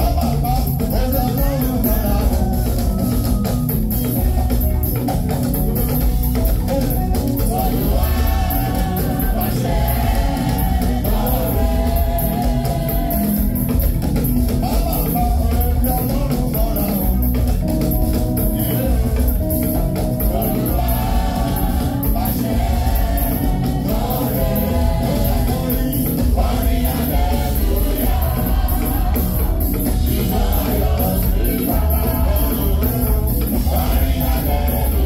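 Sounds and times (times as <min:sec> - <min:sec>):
band with strong bass: 0:00.0 - 0:35.0
gospel choir singing: 0:00.0 - 0:35.0.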